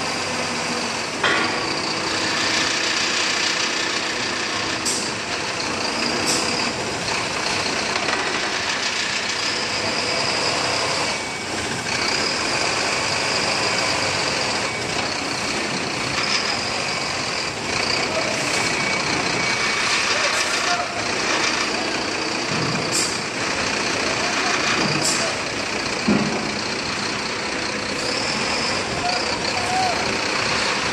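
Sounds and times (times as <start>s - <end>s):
hydraulic crane mechanical noise: 0.0s - 30.9s.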